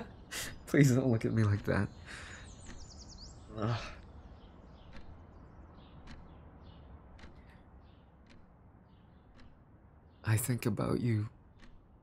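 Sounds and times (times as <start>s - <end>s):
birds chirping: 0.0s - 12.0s
faint clicks: 0.2s - 10.2s, 11.3s - 12.0s.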